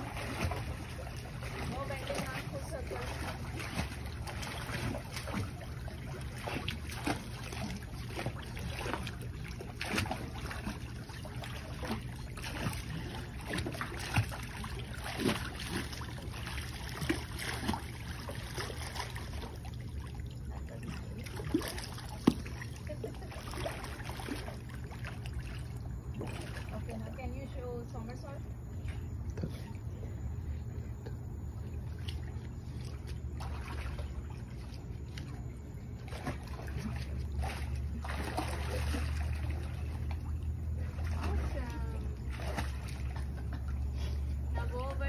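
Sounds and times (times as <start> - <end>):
low steady hum: 0.0 - 45.0
swimmer splashing water: 0.0 - 45.0.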